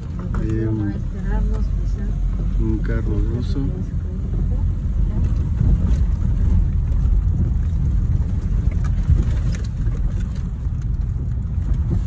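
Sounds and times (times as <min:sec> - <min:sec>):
car driving on unpaved road: 0:00.0 - 0:12.0.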